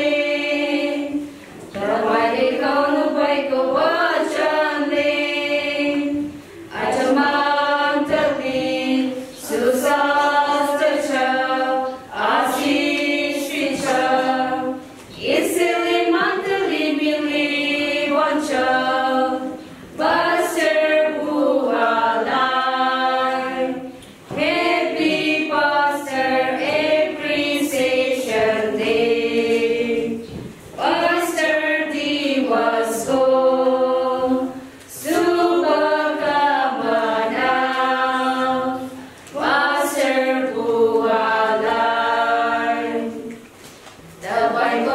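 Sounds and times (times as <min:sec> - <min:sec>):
women singing a hymn a cappella: 0:00.0 - 0:44.9.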